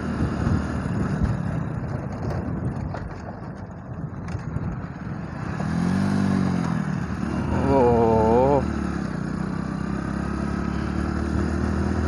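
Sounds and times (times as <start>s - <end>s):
motorcycle engine running: 0.0s - 12.0s
road rumble: 0.0s - 12.0s
wind: 0.0s - 12.0s.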